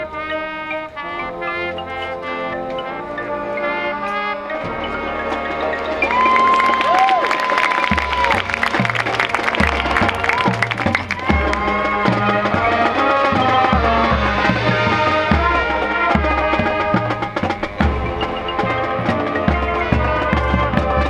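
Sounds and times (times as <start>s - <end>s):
percussion ticking: 0.0s - 21.0s
wind instrument chords: 0.0s - 21.0s.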